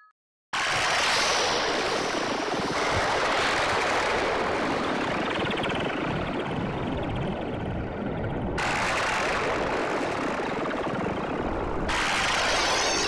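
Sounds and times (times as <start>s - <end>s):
synthesizer noise wash: 0.6s - 13.0s.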